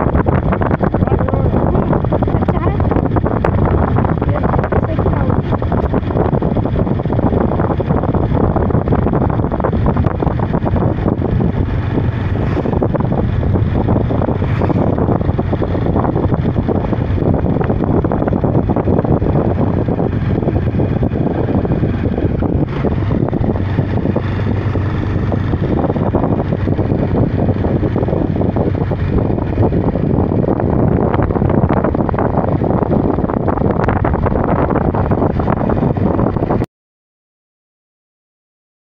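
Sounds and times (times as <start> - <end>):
motorcycle engine running: 0.0 - 36.6
wind buffeting microphone: 0.0 - 36.7.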